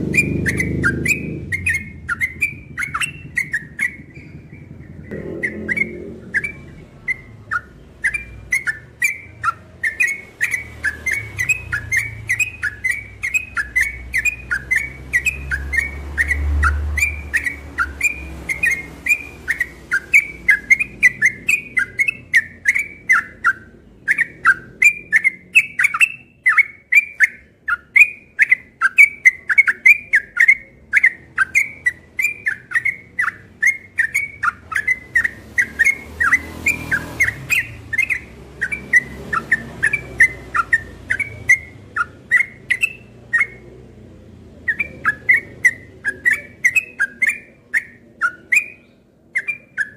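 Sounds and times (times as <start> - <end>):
bird singing whistled notes: 0.0 - 43.8, 44.6 - 49.9.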